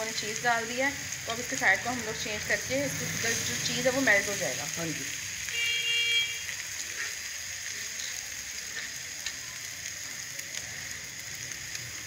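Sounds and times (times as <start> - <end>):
omelette sizzling in a pan: 0.0 - 12.0.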